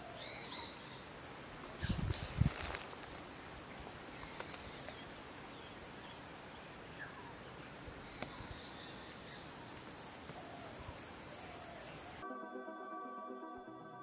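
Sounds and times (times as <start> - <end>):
faint bird calls: 0.0 - 3.0, 3.7 - 12.2
open-air hiss: 0.0 - 12.2.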